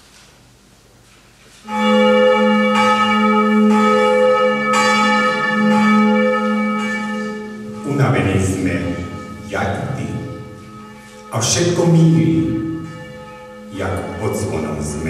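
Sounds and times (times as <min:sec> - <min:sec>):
church bell ringing: 0:01.6 - 0:15.0.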